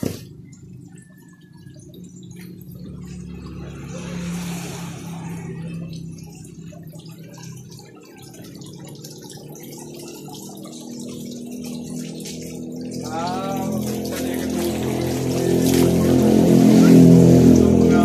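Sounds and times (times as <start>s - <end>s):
water running and trickling: 0.0s - 18.0s.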